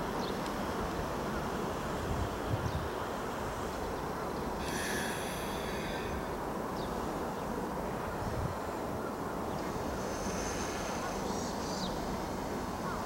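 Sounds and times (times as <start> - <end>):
electric train running noise: 0.0 - 13.0.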